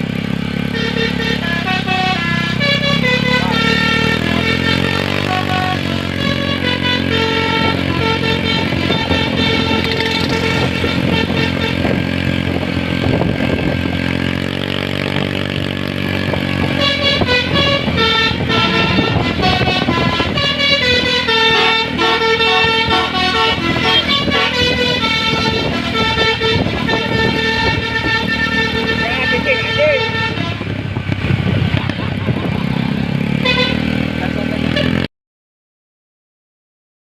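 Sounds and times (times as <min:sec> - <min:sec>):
bus musical horn: 0:00.0 - 0:31.1, 0:33.2 - 0:35.1.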